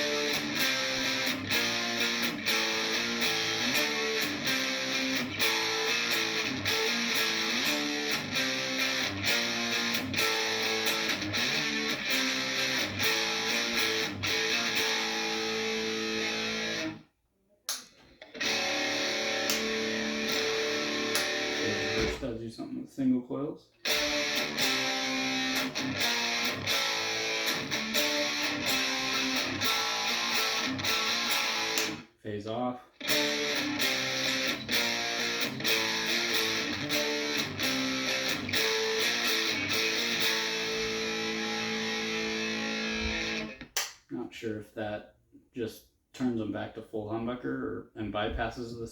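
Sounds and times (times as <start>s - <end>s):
electric guitar strumming chords: 0.0s - 17.0s, 18.2s - 22.3s, 23.8s - 32.0s, 33.0s - 43.8s.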